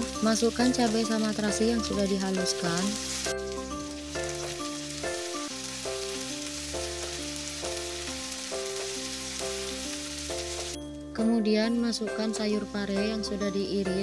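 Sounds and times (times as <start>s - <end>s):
food sizzling in hot oil: 0.0s - 14.0s
simple background melody: 0.0s - 14.0s.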